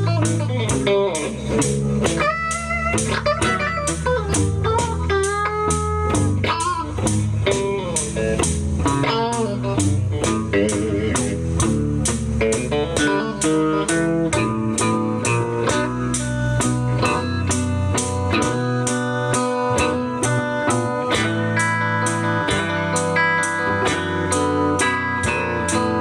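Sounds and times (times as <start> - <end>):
bass line: 0.0 - 26.0
electric guitar bending notes: 0.0 - 26.0
steady drum beat: 0.0 - 26.0.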